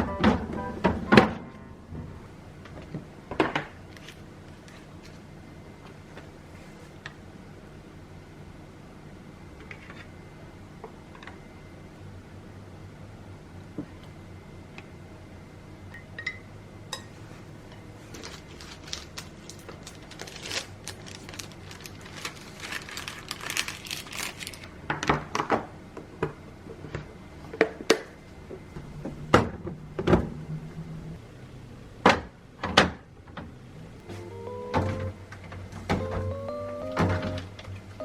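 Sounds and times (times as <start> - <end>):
low steady hum: 0.0 - 25.0, 25.8 - 38.0.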